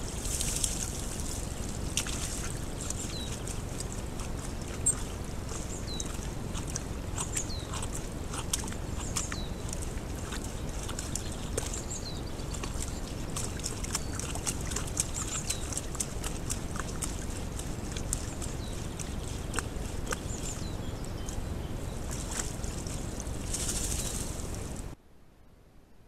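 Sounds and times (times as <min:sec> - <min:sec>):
mud and water sloshing: 0:00.0 - 0:25.0.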